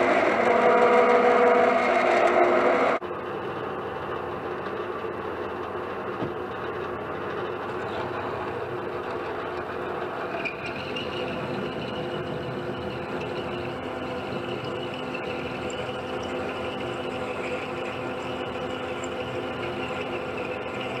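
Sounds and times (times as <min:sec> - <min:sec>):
metal lathe humming with whine: 0:00.0 - 0:21.0.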